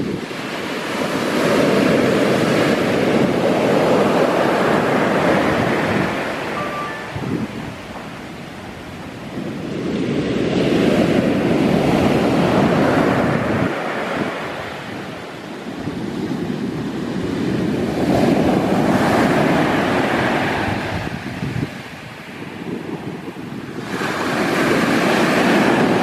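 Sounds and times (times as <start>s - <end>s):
waves breaking: 0.0s - 26.0s
wind on the microphone: 0.0s - 26.0s.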